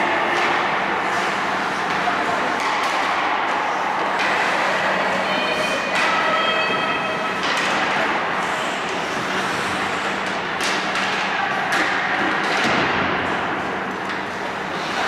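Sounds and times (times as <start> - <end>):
hockey sticks and puck clacking: 0.0 - 5.2, 5.8 - 15.0
skates scraping ice: 0.0 - 6.8, 7.4 - 15.0.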